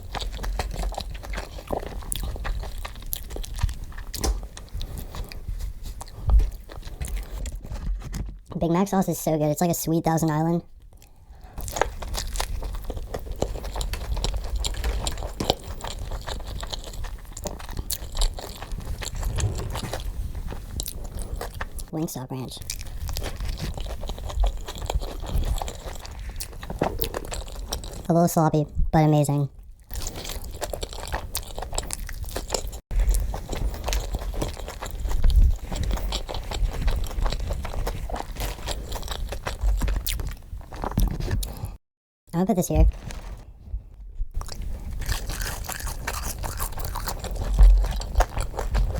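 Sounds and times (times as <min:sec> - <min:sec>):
person chewing crunchy food: 0:00.0 - 0:08.4, 0:10.8 - 0:22.0, 0:22.6 - 0:28.1, 0:29.6 - 0:41.8, 0:44.3 - 0:48.9.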